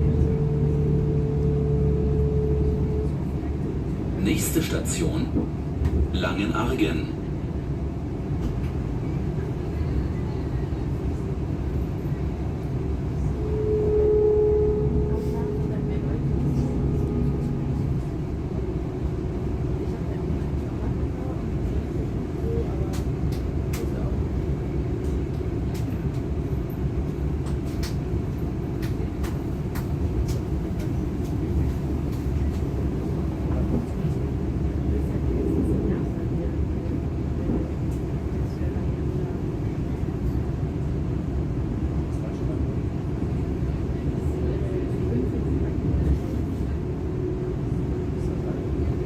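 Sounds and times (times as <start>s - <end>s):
train drive humming: 0.0s - 49.0s
train wheels rumbling on rails: 7.0s - 49.0s.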